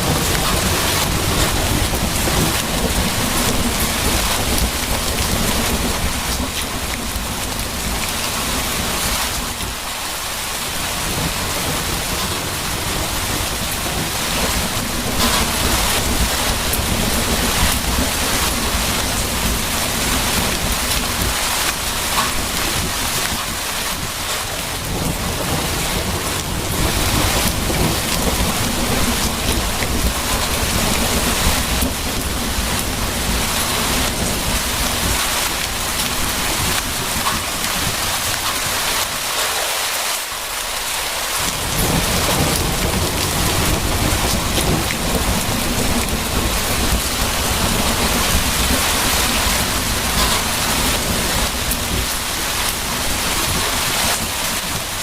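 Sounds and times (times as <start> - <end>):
rolling thunder: 0.0 - 9.9, 10.6 - 39.2, 41.4 - 55.0
heavy rain: 0.0 - 55.0.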